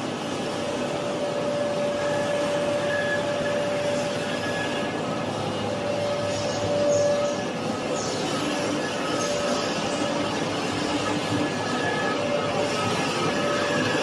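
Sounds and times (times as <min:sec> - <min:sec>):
paper machine running: 0:02.0 - 0:14.0.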